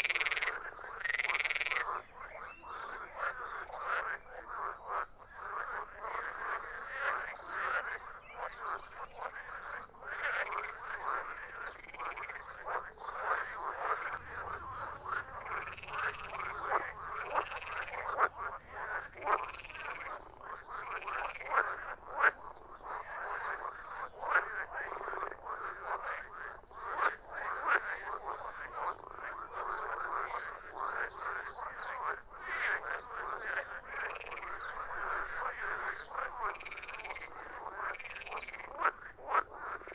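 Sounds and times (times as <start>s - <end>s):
frogs croaking: 0.0s - 39.9s
long arching frog calls: 0.0s - 39.9s.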